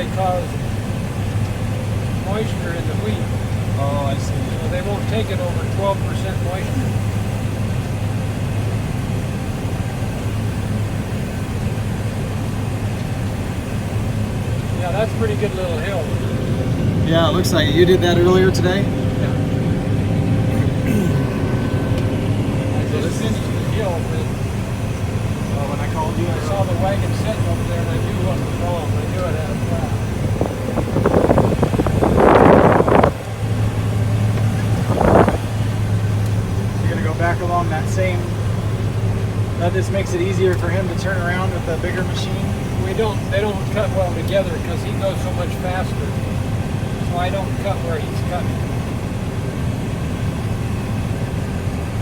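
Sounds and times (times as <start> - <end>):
combine harvester droning: 0.0 - 52.0.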